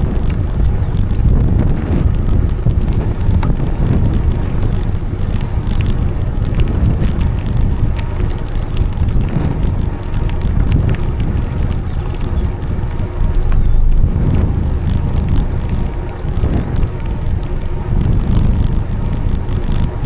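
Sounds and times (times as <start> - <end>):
bicycle ticks and rattles: 0.0 - 20.0
wind buffeting microphone: 0.0 - 20.0.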